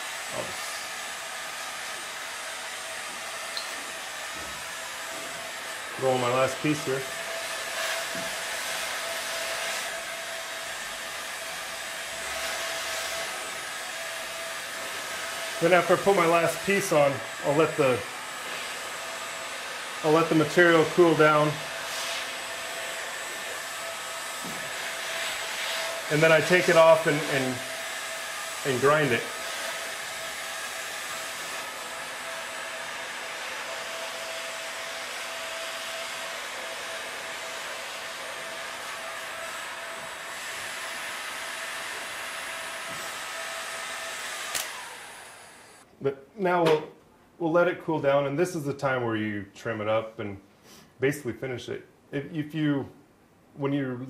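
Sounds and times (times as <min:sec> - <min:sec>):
heat gun blowing with whine: 0:00.0 - 0:45.9.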